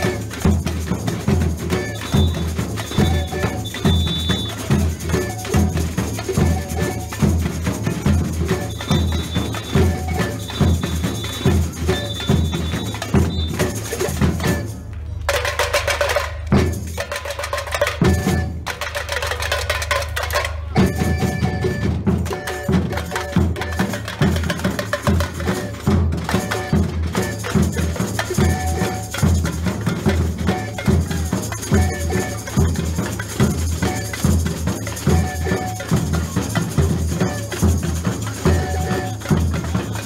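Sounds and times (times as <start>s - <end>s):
samba drum group playing: 0.0s - 40.0s.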